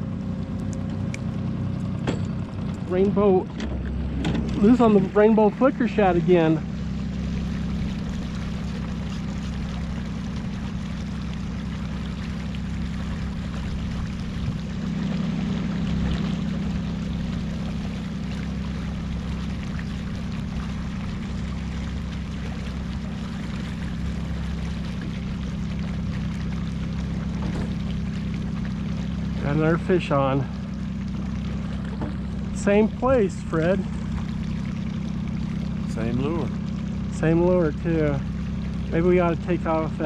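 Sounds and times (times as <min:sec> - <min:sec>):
outboard motor humming: 0:00.0 - 0:40.0
water washing behind boat: 0:00.0 - 0:40.0.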